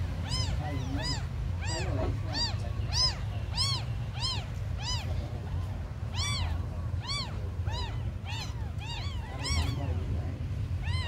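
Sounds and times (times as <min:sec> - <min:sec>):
kittens mewing: 0:00.0 - 0:11.0.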